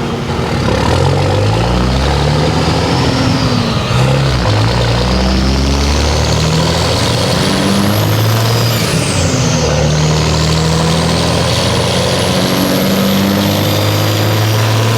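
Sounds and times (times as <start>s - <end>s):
diesel engine running: 0.0s - 14.9s
turbocharger whistling: 0.0s - 14.9s.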